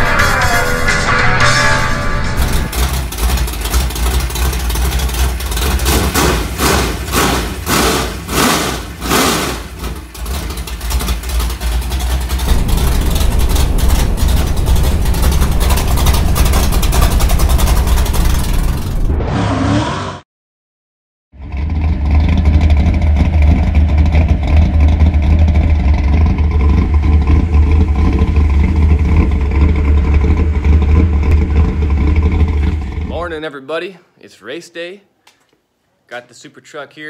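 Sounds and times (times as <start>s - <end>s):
race car engine revving: 2.2s - 20.2s, 21.4s - 33.2s.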